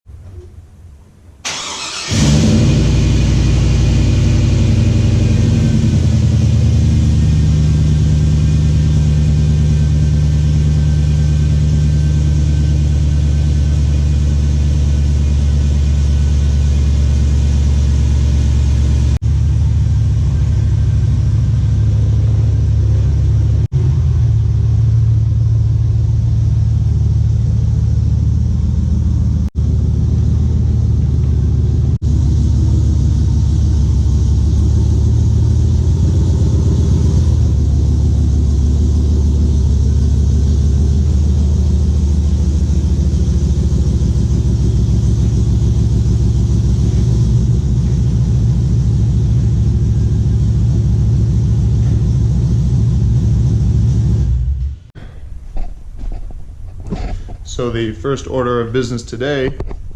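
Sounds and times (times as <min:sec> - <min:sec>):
truck engine starting and idling: 0:00.1 - 0:59.9.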